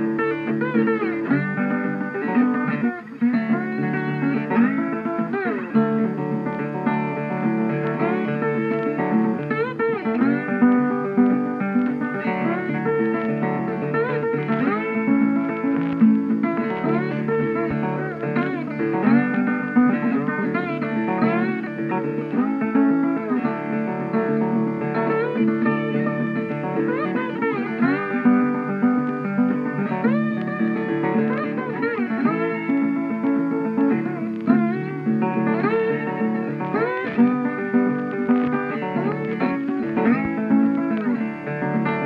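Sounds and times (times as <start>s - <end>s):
plucked guitar music: 0.0s - 42.0s.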